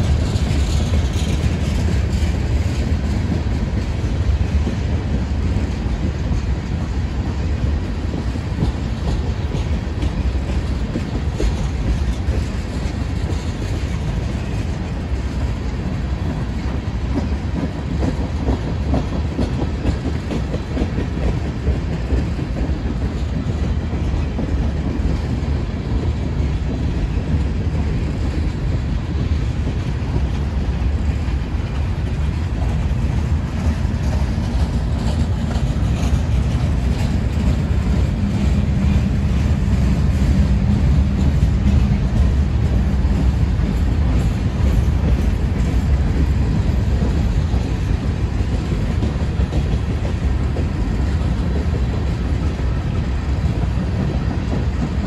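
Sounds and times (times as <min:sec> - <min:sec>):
freight train rumbling past: 0:00.0 - 0:55.0
wheels clicking over rail joints: 0:00.0 - 0:55.0.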